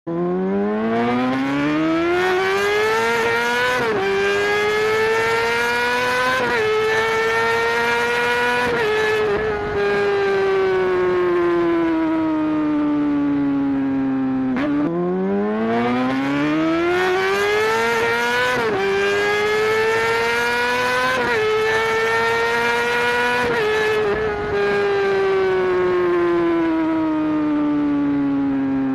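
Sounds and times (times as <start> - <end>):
engine revving and shifting gear: 0.0 - 28.9.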